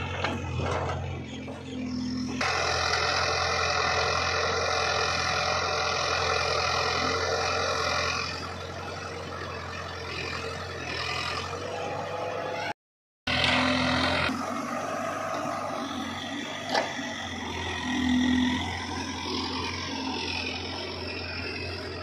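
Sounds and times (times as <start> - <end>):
diesel engine hum: 0.0 - 22.0.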